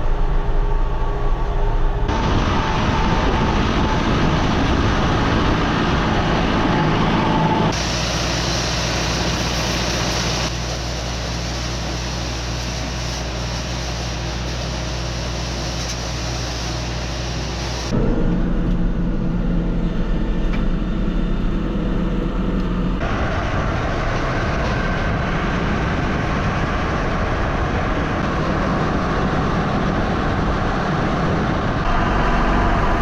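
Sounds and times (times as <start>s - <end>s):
engine running under load: 0.0s - 33.0s.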